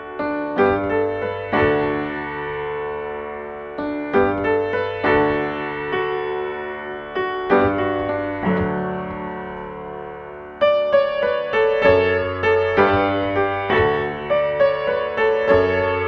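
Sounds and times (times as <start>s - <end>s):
upright piano chords: 0.0s - 16.0s.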